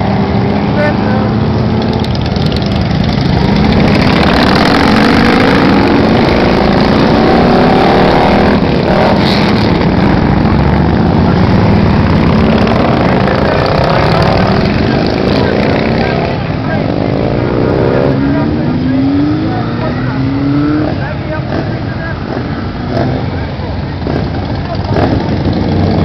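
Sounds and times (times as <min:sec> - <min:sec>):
motorcycle engines accelerating: 0:00.0 - 0:26.0.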